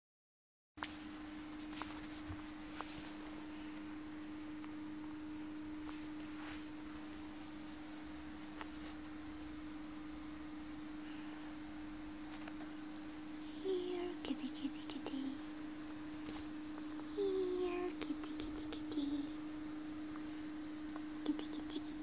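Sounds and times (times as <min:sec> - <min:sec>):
electrical hum: 0:00.8 - 0:22.0.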